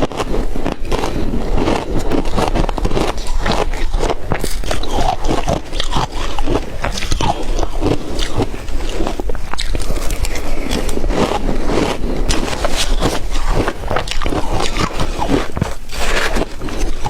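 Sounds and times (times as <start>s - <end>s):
crunching shaved ice: 0.0s - 17.0s.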